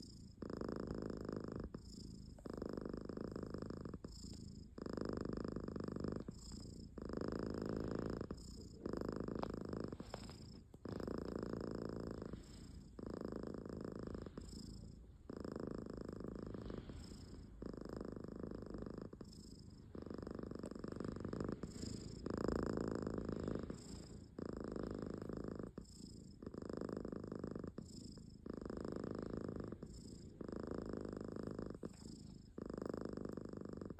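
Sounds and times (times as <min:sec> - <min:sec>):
cat snoring: 0:00.0 - 0:33.9.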